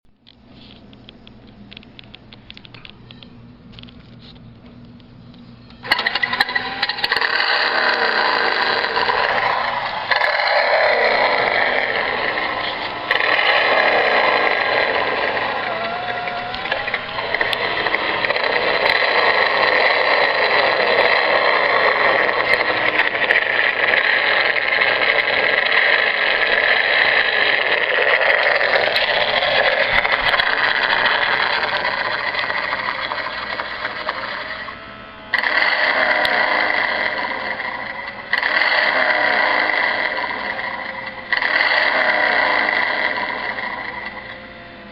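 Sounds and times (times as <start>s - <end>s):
toy electronic engine sound: 5.7s - 44.9s.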